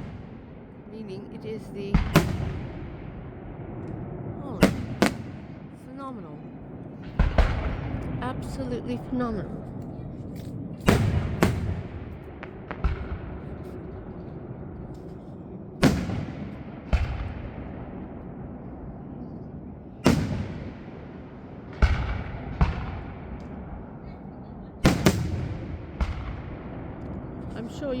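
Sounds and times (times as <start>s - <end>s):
fireworks booming: 0.0s - 28.0s.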